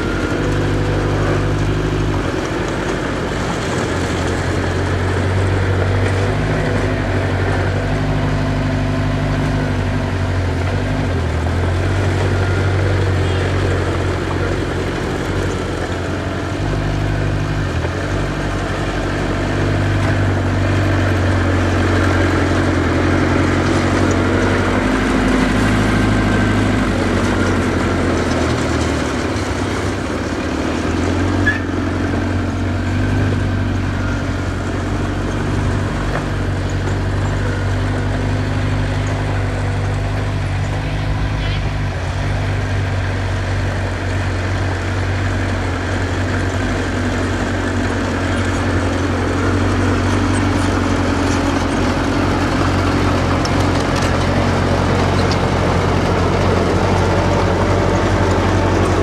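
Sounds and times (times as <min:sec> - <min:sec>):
diesel engine of earthmover: 0:00.0 - 0:59.0.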